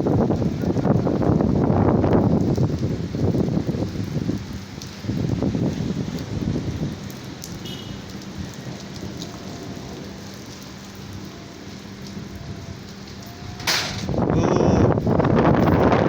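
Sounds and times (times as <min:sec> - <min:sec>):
wind gust hitting microphone: 0:00.0 - 0:10.4, 0:11.2 - 0:16.0
rain falling steadily: 0:00.0 - 0:16.0.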